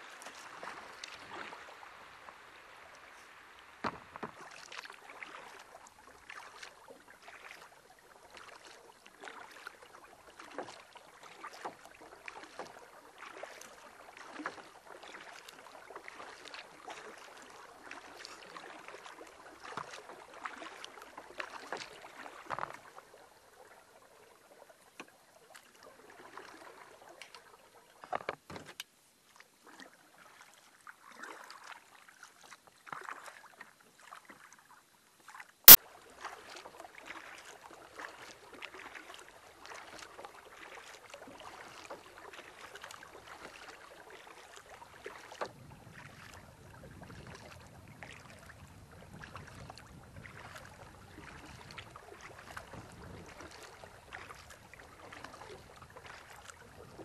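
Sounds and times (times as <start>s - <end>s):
paddle swishing water: 0.0s - 57.0s.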